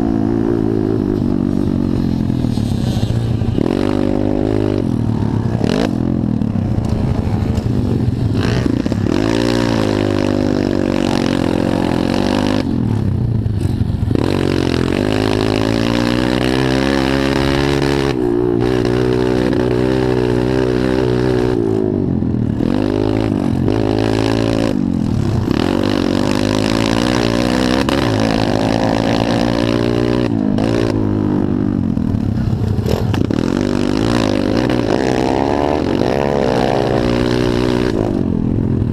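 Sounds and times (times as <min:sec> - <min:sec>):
pit bike engines racing: 0:00.0 - 0:38.9.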